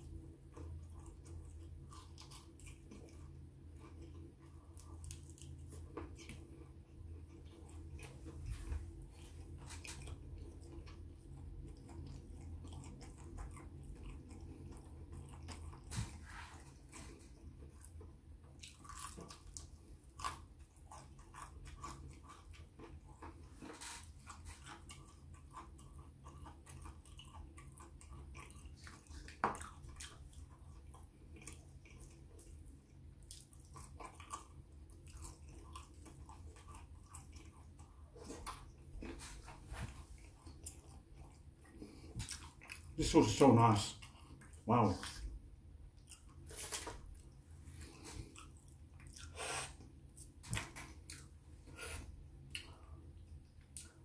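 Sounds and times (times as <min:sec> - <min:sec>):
faint low hum: 0:00.0 - 0:54.0
person chewing and biting food: 0:00.1 - 0:43.0, 0:46.0 - 0:54.0.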